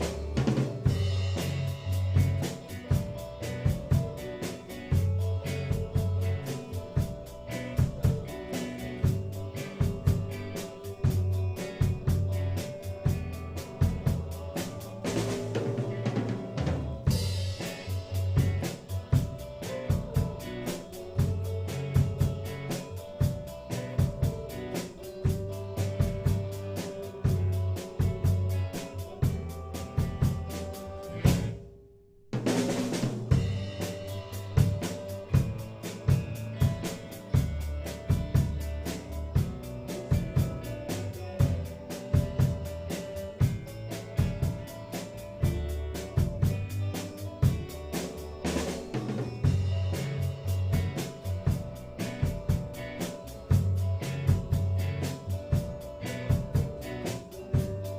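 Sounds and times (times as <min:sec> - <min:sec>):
band playing a song: 0:00.0 - 0:31.6, 0:32.4 - 0:57.9.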